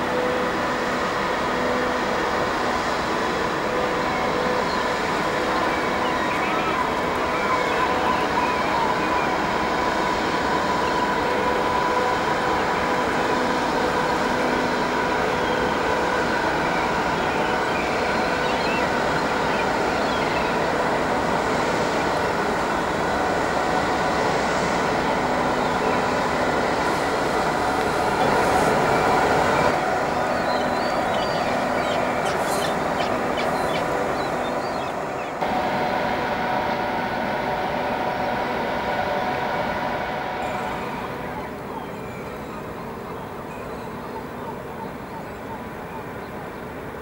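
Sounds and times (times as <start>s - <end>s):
ship engines droning: 0.0s - 47.0s.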